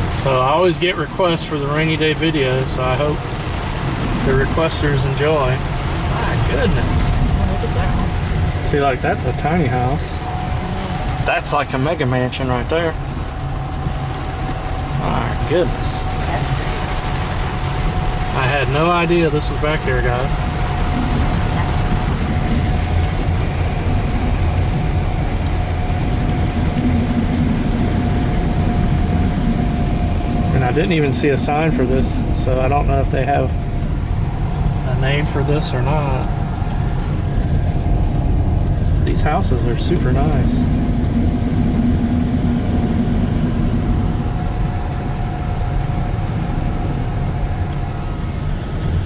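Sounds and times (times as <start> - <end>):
car cabin road noise: 0.0 - 49.0
faint steady whine: 0.0 - 49.0
low hum: 0.0 - 49.0
tyres on wet road: 0.0 - 49.0.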